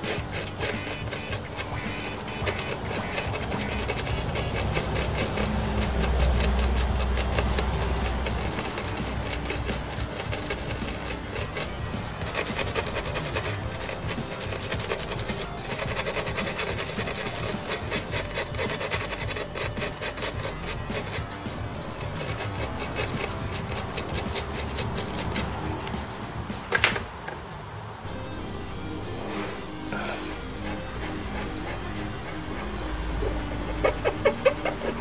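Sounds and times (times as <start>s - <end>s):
wire brush scrubbing circuit board: 0.0s - 26.2s, 29.0s - 35.0s.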